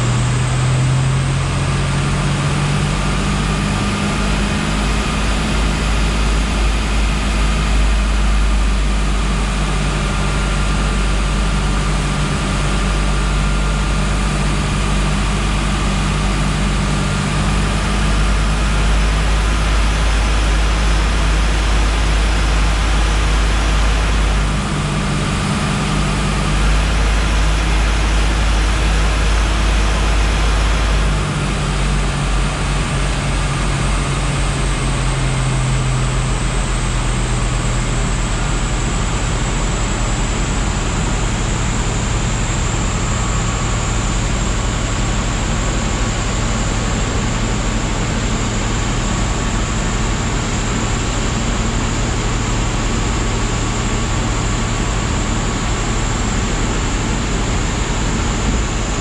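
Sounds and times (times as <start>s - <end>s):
car engine running under load: 0.0s - 59.0s
dense rush of noise: 0.0s - 59.0s
high whine dropping in pitch: 0.0s - 59.0s.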